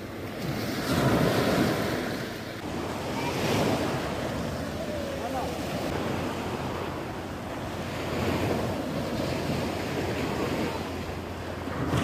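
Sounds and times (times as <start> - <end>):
small waves breaking on shore: 0.0 - 12.0
wind on microphone: 0.0 - 12.0.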